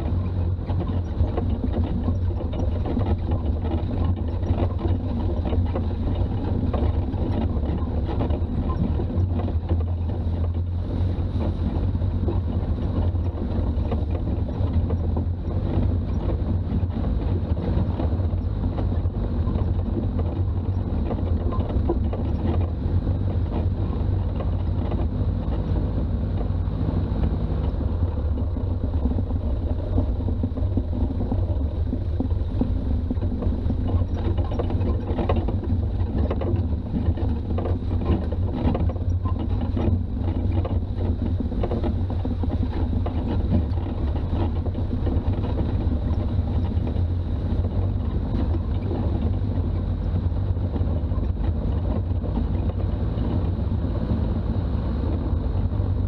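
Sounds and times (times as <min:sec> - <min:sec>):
diesel engine rumble: 0:00.0 - 0:56.0
road noise: 0:00.0 - 0:56.0.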